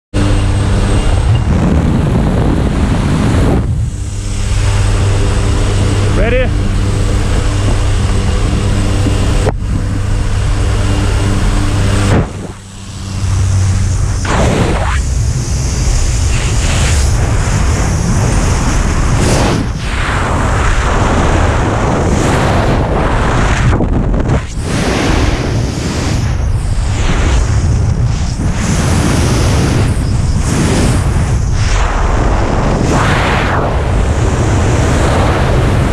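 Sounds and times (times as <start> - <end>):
propeller plane engine drone: 0.1 - 35.9
wind rushing: 0.2 - 35.9.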